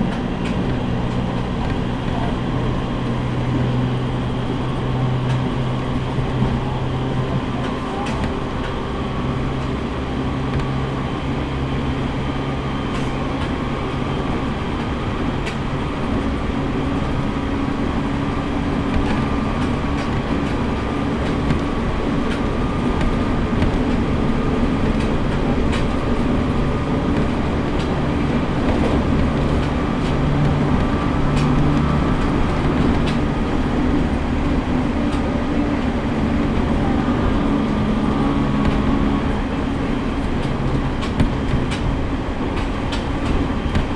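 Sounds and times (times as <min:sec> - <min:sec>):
train motor hum: 0:00.0 - 0:43.9
wheel and rail noise: 0:00.0 - 0:43.9.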